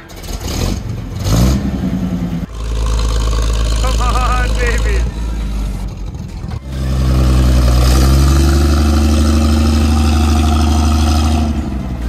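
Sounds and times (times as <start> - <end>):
fire truck engine revving: 0.0 - 12.0.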